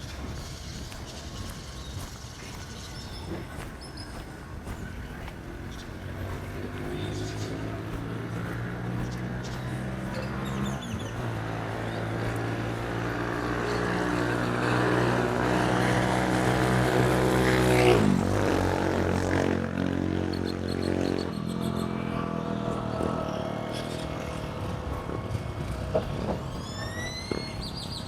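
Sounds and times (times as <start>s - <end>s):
engine droning hum passing by: 3.3s - 28.0s.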